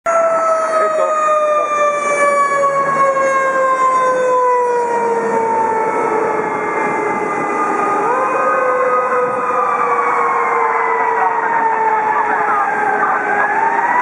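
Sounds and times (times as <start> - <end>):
fire engine mechanical siren: 0.1 - 14.0.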